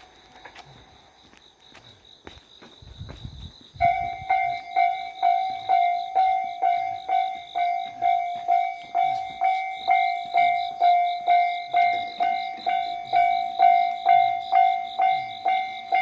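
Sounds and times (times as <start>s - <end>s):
level-crossing alarm ringing: 0.0s - 1.4s, 3.8s - 16.0s.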